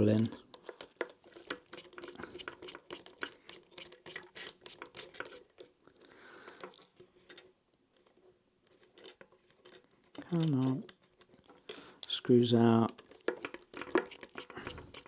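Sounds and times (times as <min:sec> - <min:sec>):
soft rustle: 0:00.0 - 0:15.0.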